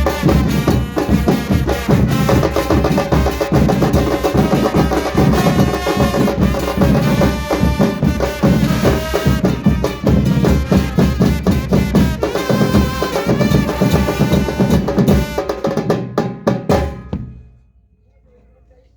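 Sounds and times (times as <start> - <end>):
pitched instrumental or sung parts: 0.0 - 15.6
drum accent hits: 0.0 - 17.7
drums and percussion: 0.0 - 17.9.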